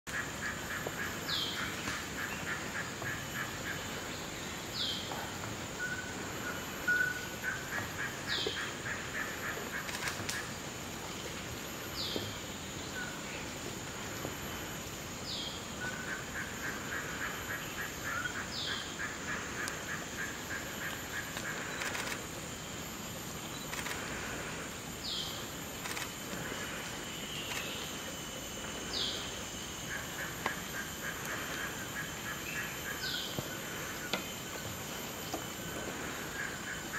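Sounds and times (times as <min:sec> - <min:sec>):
high insect drone: 0:00.1 - 0:36.9.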